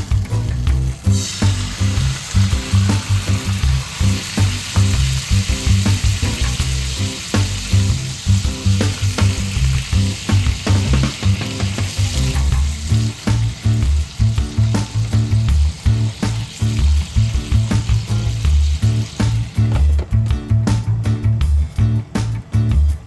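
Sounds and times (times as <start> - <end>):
peppers sizzling in oil: 0.0 - 20.6
background music with bass line: 0.0 - 23.0.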